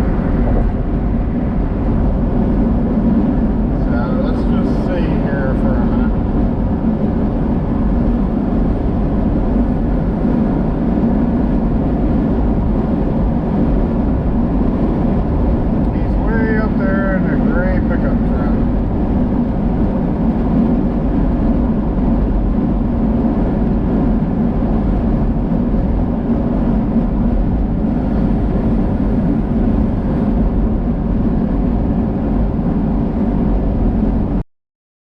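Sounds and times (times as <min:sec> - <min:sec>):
road and engine noise in vehicle: 0:00.0 - 0:34.4.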